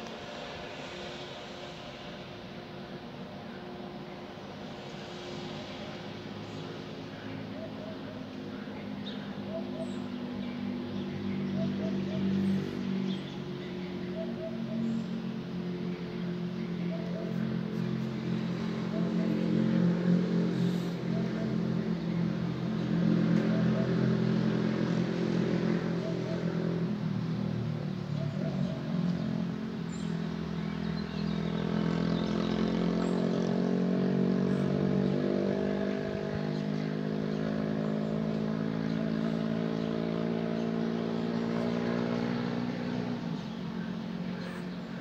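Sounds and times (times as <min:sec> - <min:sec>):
street sweeper engine drone: 0:00.0 - 0:45.0.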